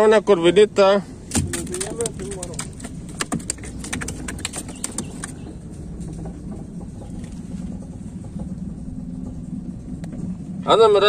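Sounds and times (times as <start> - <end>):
boat motor running: 0.0 - 11.0
sharp clicks and knocks: 1.3 - 10.3.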